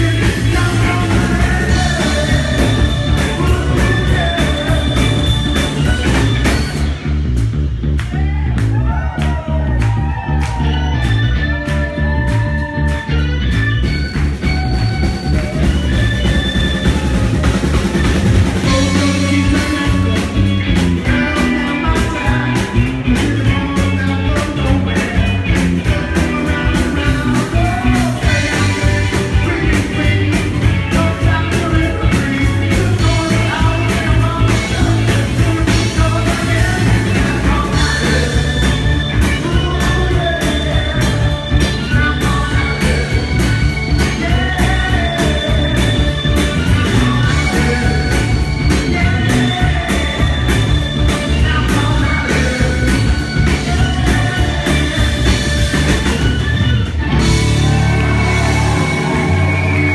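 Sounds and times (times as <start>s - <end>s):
lead vocal singing: 0.0s - 7.0s, 15.4s - 56.4s, 57.1s - 59.9s
bass: 0.0s - 59.9s
drums: 0.0s - 59.9s
electric guitars: 0.0s - 59.9s.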